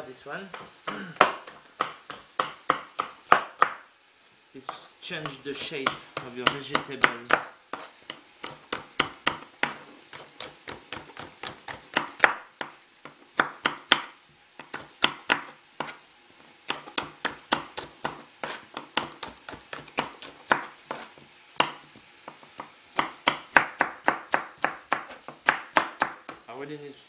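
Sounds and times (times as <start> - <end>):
knife chopping on wooden board: 0.5 - 3.8, 4.7 - 16.0, 16.7 - 26.5.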